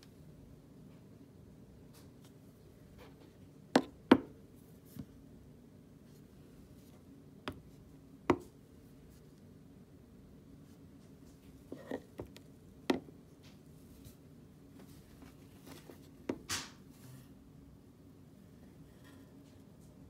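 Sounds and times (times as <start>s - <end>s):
faint steady low hum: 0.0s - 20.0s.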